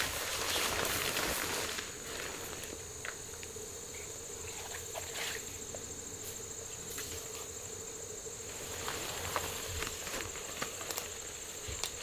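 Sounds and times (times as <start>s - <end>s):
handling rustles and ticks: 0.0s - 7.5s, 8.5s - 12.0s
insects trilling: 0.0s - 12.0s.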